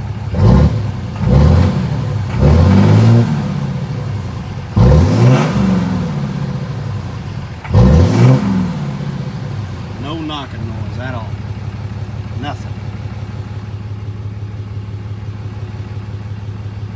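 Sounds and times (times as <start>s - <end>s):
diesel engine revving: 0.0s - 16.9s.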